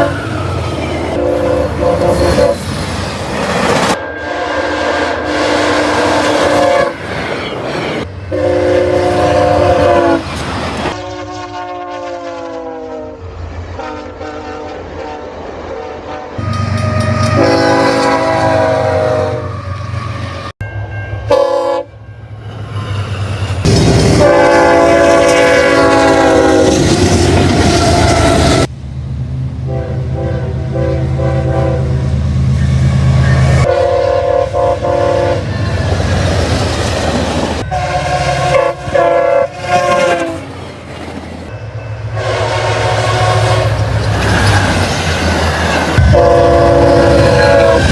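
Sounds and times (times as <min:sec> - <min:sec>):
train horns sounding: 0:00.0 - 0:03.0, 0:03.6 - 0:20.5, 0:21.1 - 0:22.3, 0:23.6 - 0:28.7, 0:29.5 - 0:40.6, 0:41.5 - 0:47.9
locomotive engines rumbling: 0:00.0 - 0:11.2, 0:16.4 - 0:47.9.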